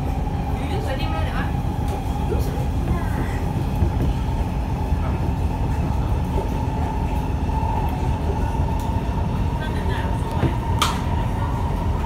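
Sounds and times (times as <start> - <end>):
metro train wheels rumbling: 0.0 - 12.0.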